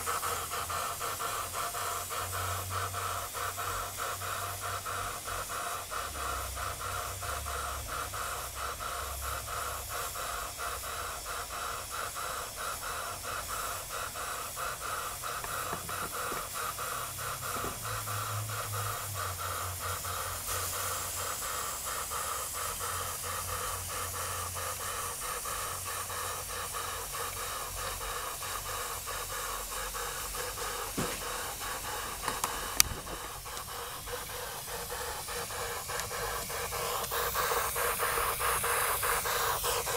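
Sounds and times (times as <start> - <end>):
steam engine chuffing: 0.0 - 39.9
steam hissing: 0.0 - 39.9.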